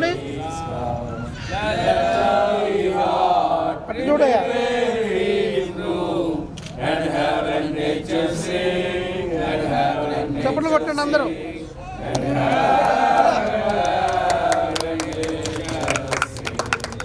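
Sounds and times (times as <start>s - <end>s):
group of people singing: 0.0s - 16.9s.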